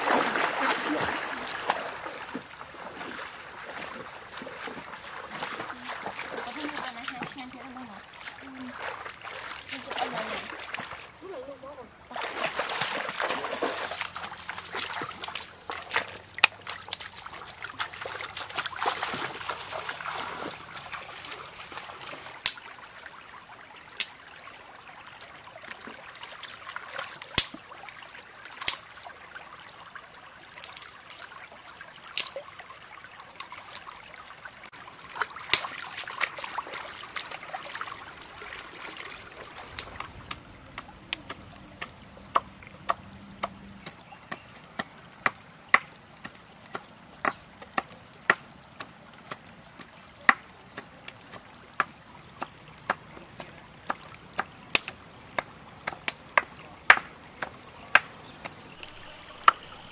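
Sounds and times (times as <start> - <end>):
stream water splashing: 0.0 - 59.9
water trickling and sloshing: 0.0 - 59.9.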